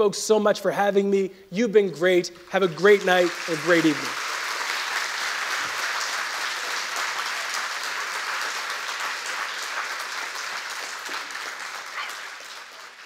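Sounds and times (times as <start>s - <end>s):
audience clapping: 2.5s - 13.0s.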